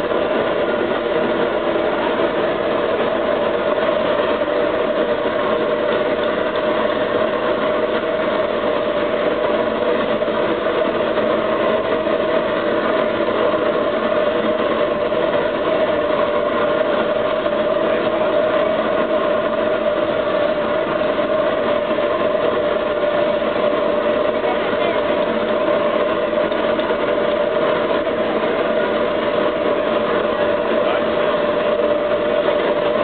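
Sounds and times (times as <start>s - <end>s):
furnace machine drone: 0.0s - 33.0s.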